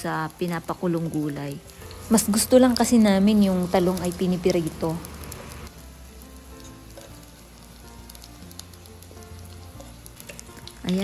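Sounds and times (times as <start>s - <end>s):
eggplant sizzling in hot oil: 0.0s - 11.0s
soft background music: 0.0s - 11.0s.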